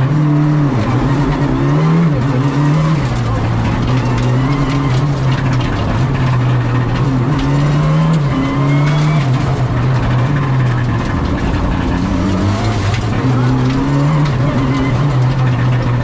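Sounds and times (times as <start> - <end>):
rally car engine revving: 0.0 - 16.0
road and tyre noise: 0.0 - 16.0.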